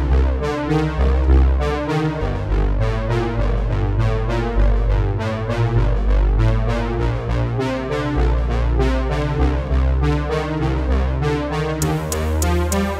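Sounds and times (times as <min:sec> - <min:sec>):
synthesizer music with beat: 0:00.0 - 0:12.9.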